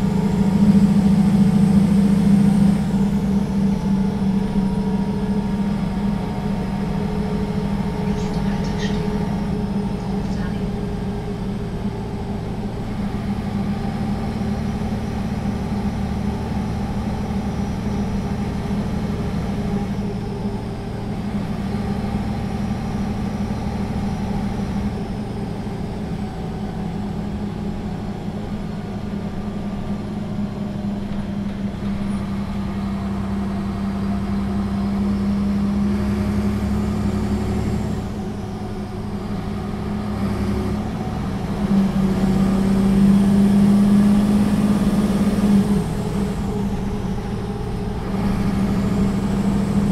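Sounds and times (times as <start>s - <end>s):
bus engine hum: 0.0s - 49.9s
road noise: 0.0s - 49.9s.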